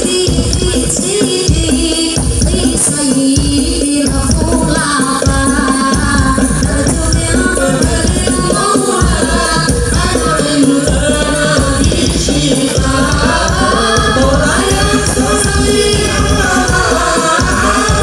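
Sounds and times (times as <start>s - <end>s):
crowd of women singing: 0.0s - 18.0s
woman singing lead: 0.0s - 18.0s.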